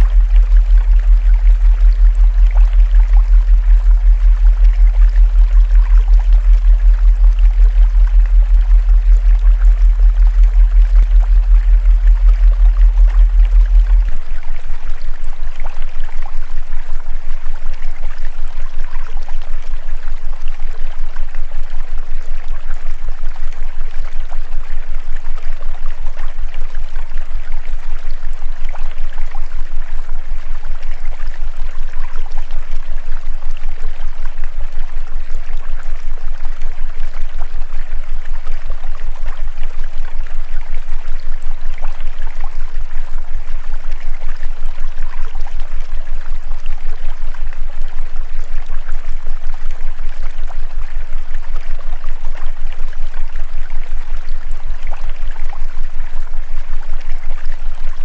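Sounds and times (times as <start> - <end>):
low pulsing hum: 0.0 - 58.0
stream water running: 0.0 - 58.0.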